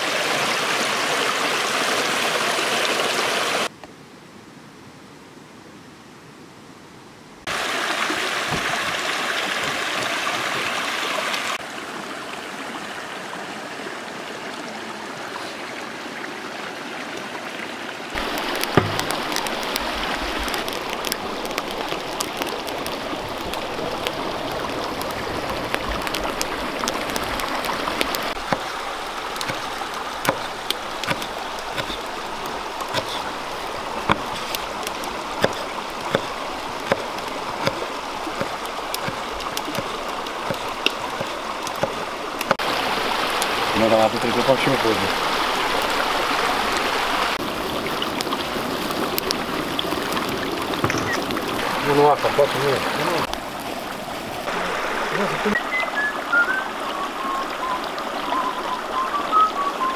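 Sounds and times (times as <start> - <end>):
rushing water: 0.0 - 3.8, 7.4 - 59.9.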